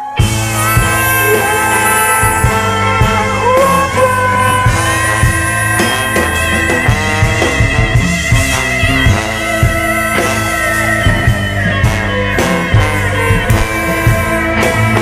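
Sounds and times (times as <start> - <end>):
lead line with bending notes: 0.2 - 15.0
drum beat: 0.5 - 15.0.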